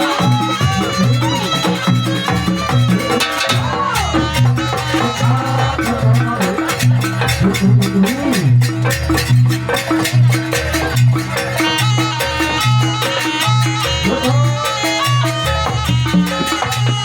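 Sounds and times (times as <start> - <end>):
drums and struck percussion: 0.0 - 17.0
sliding melody line: 0.0 - 17.0.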